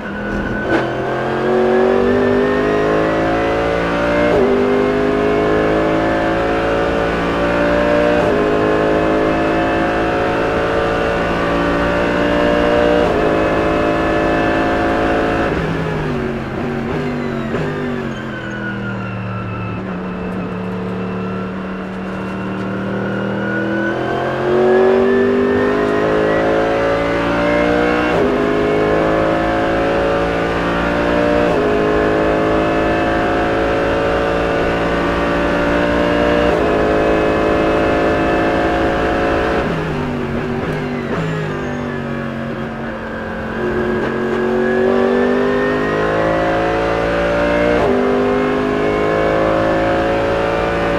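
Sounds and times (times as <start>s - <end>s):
race car engine accelerating: 0.0s - 50.9s.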